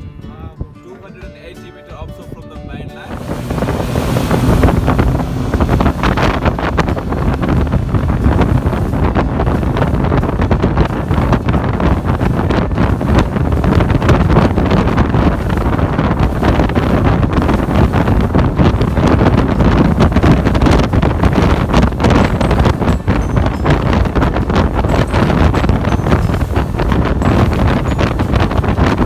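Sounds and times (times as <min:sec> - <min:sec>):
wind buffeting microphone: 0:02.3 - 0:29.0
boat engine: 0:02.9 - 0:29.0
water rushing past hull: 0:03.0 - 0:29.0.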